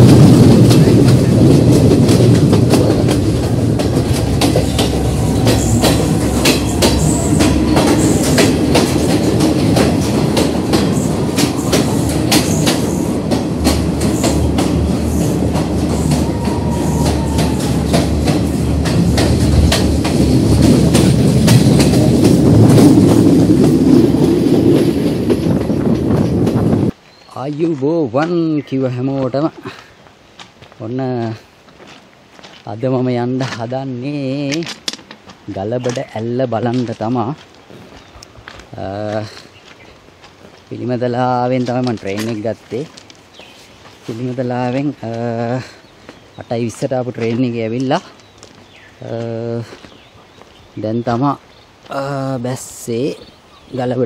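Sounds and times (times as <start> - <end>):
train rumble: 0.0 - 27.0, 28.2 - 54.0
wheels clacking over rail joints: 0.0 - 27.0, 31.8 - 54.0.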